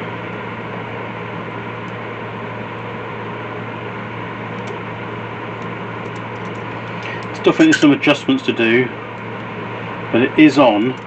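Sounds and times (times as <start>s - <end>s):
constant low hum: 0.0s - 11.0s.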